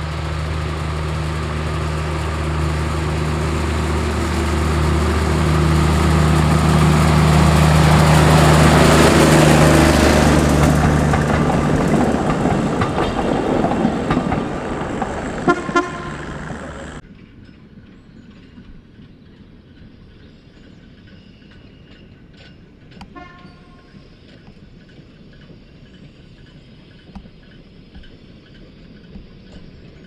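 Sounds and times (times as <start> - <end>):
diesel locomotive engine: 0.0 - 30.0
wheels clicking over rail joints: 0.0 - 30.0.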